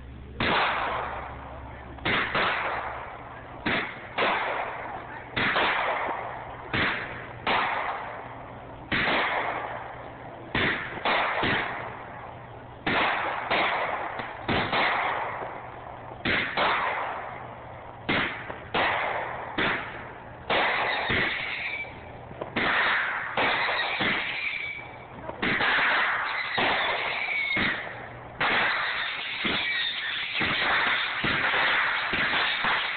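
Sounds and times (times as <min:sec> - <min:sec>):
firework shells bursting: 0:00.0 - 0:32.9.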